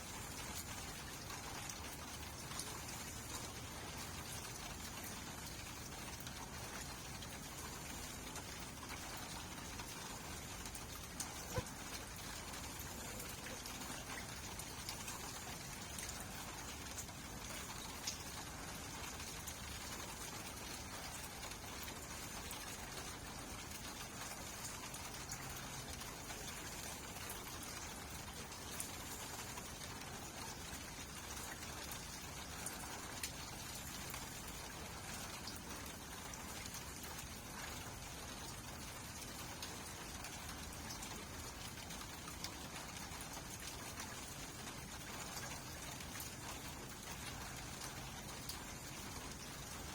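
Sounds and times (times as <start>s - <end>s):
steady rain: 0.0s - 49.9s
raindrops tapping: 0.2s - 49.9s.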